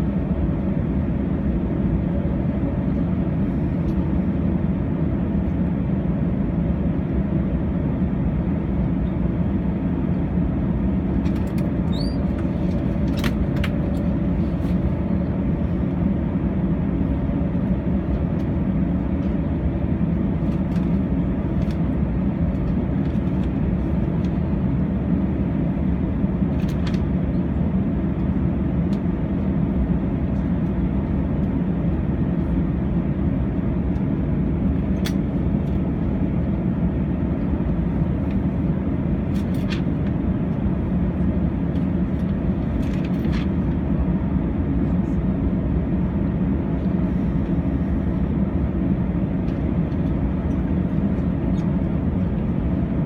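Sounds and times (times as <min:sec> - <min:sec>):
jet engines idling rumble: 0:00.0 - 0:53.0.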